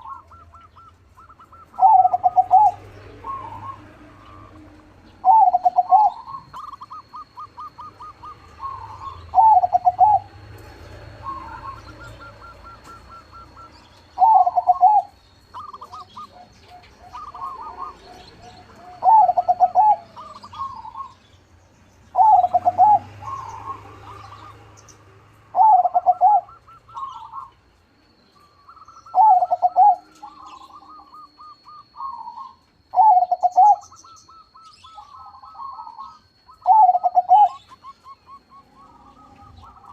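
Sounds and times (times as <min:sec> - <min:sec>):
doves cooing: 0:00.0 - 0:21.3, 0:22.1 - 0:39.9
rapid trilled coos: 0:00.0 - 0:21.3, 0:22.0 - 0:39.9.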